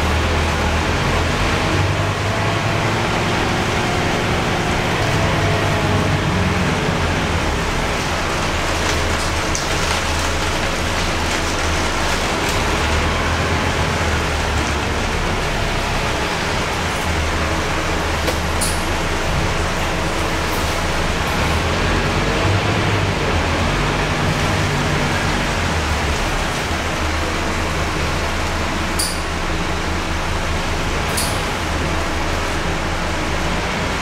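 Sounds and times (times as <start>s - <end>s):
bus engine humming: 0.0s - 34.0s
rain and wet road hiss: 0.0s - 34.0s.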